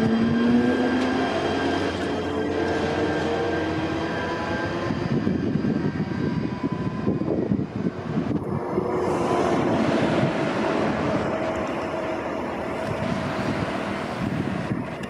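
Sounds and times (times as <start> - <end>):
broad rushing noise: 0.0 - 15.0
train mechanical whine: 0.0 - 15.0.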